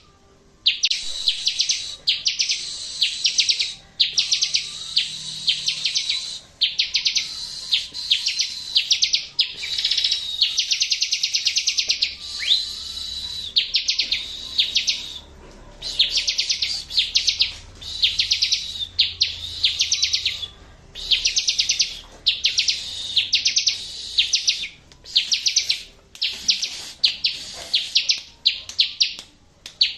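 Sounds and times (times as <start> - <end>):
bird trilled chattering song: 0.7 - 29.2.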